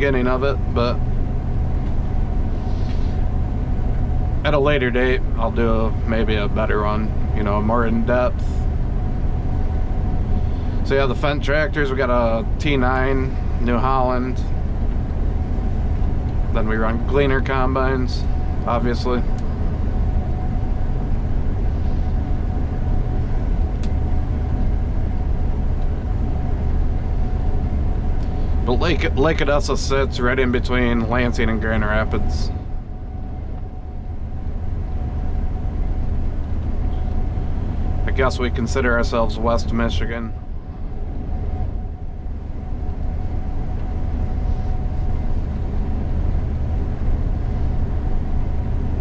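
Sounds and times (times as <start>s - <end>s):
combine harvester drone: 0.0s - 49.0s
faint steady whine: 0.0s - 49.0s.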